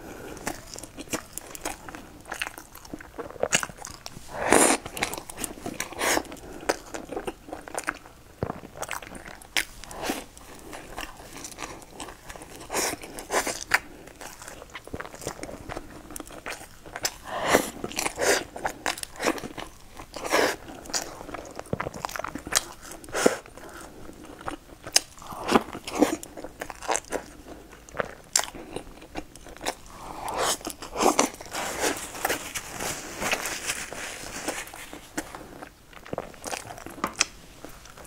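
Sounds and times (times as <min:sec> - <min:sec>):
pastry crunching: 0:00.1 - 0:38.0.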